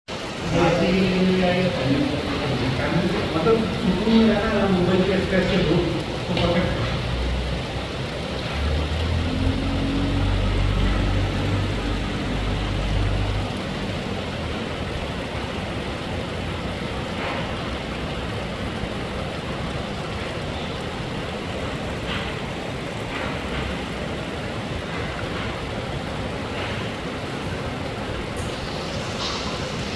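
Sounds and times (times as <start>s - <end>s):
steady rain hiss: 0.1s - 29.9s.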